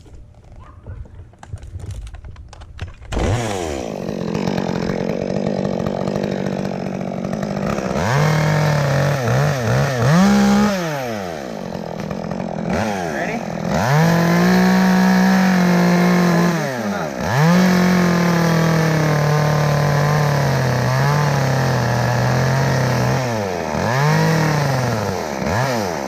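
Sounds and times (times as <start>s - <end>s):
chainsaw revving: 3.0s - 26.0s.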